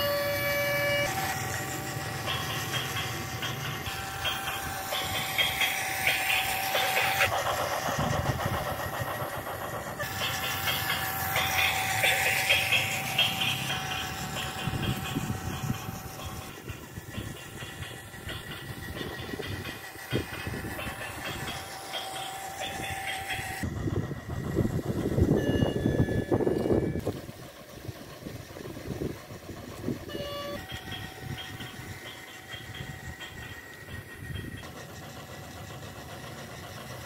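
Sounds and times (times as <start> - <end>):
toy train motor whirring: 0.0 - 37.0.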